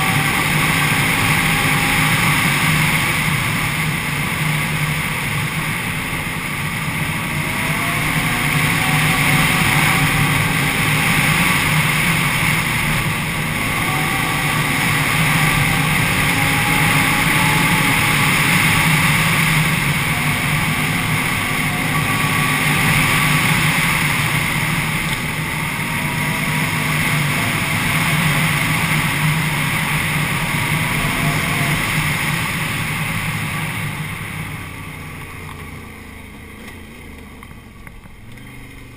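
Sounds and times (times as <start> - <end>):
atv engine running at speed: 0.0 - 38.9.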